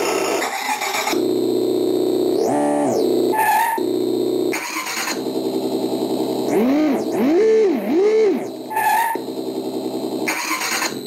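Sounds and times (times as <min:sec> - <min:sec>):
simulated engine through small speakers: 0:00.0 - 0:11.0.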